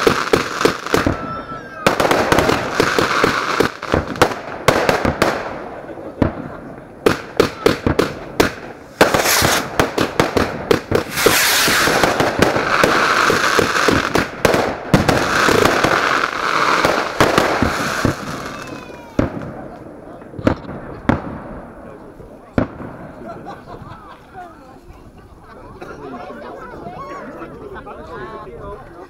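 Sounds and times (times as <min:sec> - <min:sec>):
fireworks bangs and crackle: 0:00.0 - 0:24.2.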